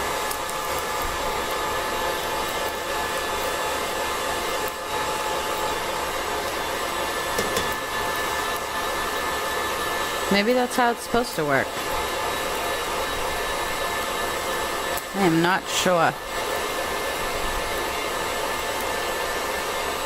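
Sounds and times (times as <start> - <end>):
stand mixer motor whirring: 0.0 - 20.0.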